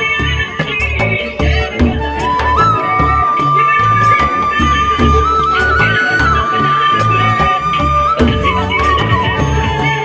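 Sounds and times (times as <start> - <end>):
flute-like melody: 1.3 - 10.0.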